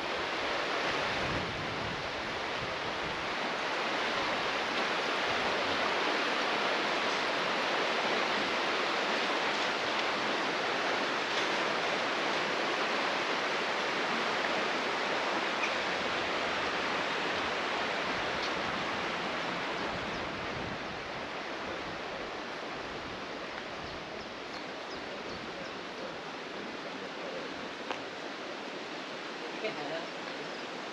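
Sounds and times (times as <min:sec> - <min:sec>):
flowing water rushing: 0:00.0 - 0:30.9.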